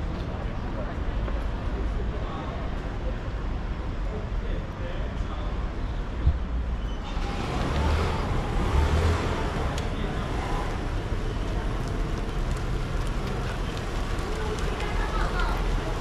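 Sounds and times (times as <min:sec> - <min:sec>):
faint voices of passers-by: 0:00.0 - 0:16.0
traffic noise: 0:00.0 - 0:16.0.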